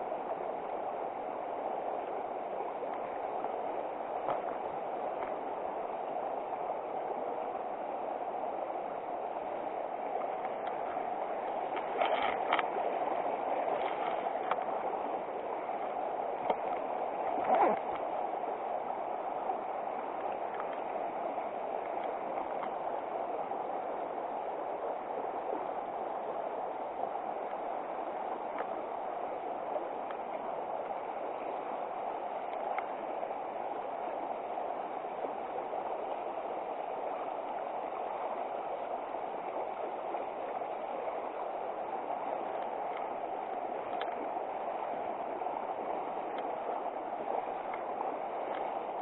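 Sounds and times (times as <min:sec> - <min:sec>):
river water flowing over stones: 0:00.0 - 0:49.0.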